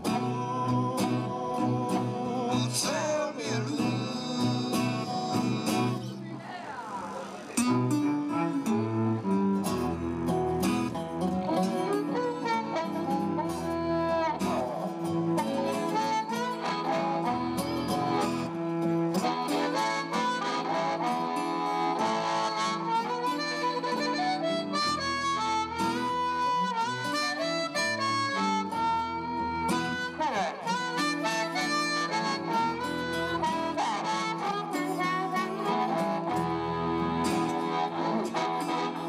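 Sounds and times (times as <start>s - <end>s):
blues harmonica playing: 0.0s - 6.2s, 7.6s - 39.0s
acoustic guitar: 0.0s - 39.0s
electric cello: 7.6s - 39.0s.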